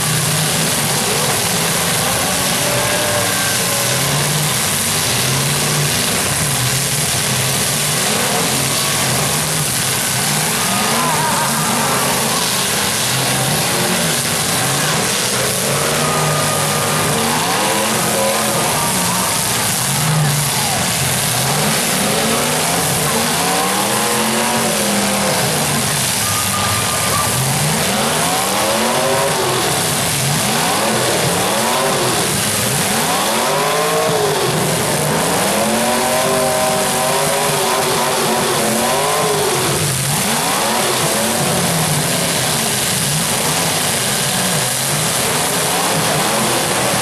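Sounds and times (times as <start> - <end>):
car engines revving: 0.0 - 47.0
cars ramming each other: 0.0 - 47.0
crowd noise: 0.0 - 47.0.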